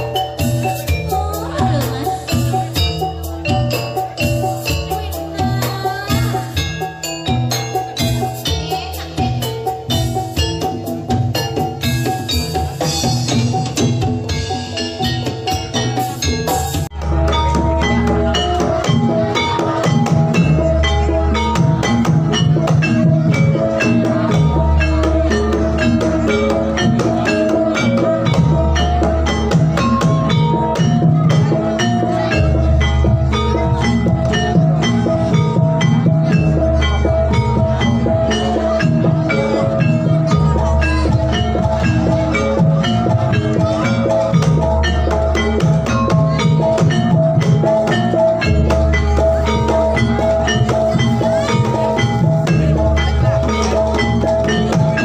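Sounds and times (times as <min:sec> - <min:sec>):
drum strokes: 0:00.0 - 0:55.0
loud gamelan music over speakers: 0:00.0 - 0:55.0
metal-keyed instruments playing: 0:00.0 - 0:55.0.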